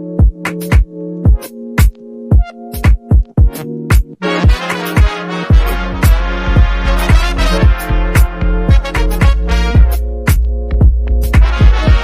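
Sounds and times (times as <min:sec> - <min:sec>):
electronic music: 0:00.0 - 0:12.0
synth chords: 0:00.0 - 0:12.0
kick drum: 0:00.2 - 0:12.0.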